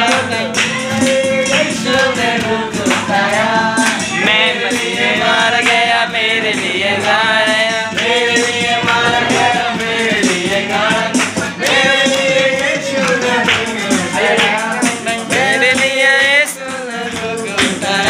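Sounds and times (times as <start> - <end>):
strummed acoustic guitar: 0.0 - 15.8
group singing worship song: 0.0 - 18.0
percussive beat: 0.0 - 18.0.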